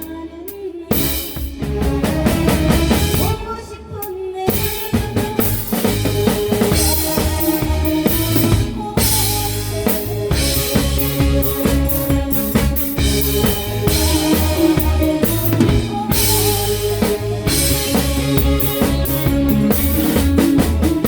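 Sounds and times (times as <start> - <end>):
band rehearsing: 0.0 - 21.0
drum kit beat: 0.0 - 21.0.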